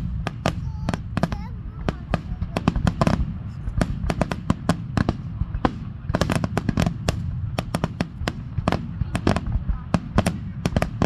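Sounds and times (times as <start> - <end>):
continuous low rumble: 0.0 - 11.0
firework shells bursting: 0.0 - 11.0.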